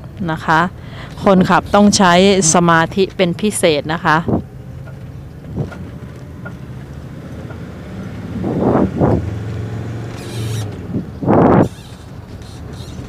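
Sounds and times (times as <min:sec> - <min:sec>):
road noise: 0:00.0 - 0:13.0
vehicle engine hum: 0:00.0 - 0:13.0.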